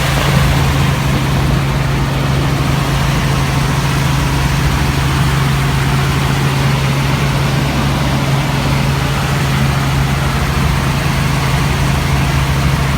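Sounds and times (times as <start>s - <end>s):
helicopter engine and rotor drone: 0.0s - 12.9s.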